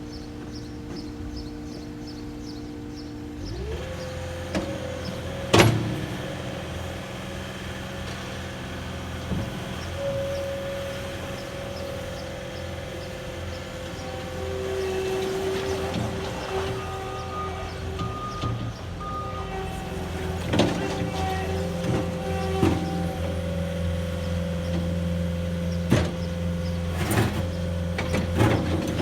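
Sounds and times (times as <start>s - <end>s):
diesel engine idling and revving: 0.0s - 29.0s.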